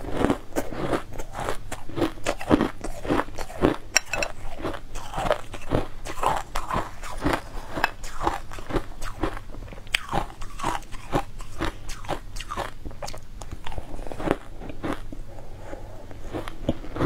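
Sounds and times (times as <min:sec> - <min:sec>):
crushed ice being chewed: 0:00.0 - 0:17.0.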